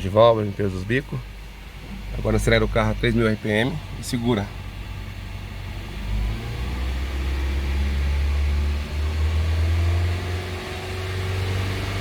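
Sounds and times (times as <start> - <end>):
car engine revving steadily: 0.0 - 12.0.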